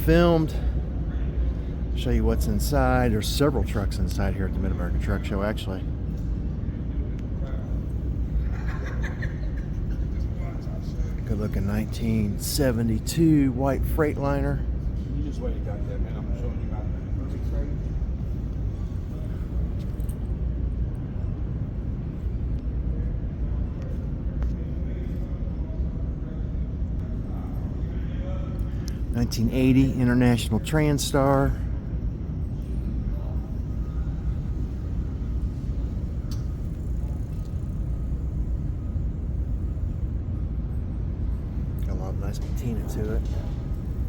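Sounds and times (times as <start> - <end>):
low rumble of indoor hall: 0.0 - 44.0.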